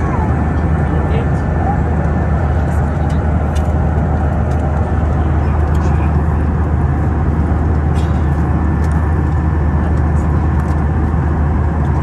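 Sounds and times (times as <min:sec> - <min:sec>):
vehicle interior rumble: 0:00.0 - 0:12.0.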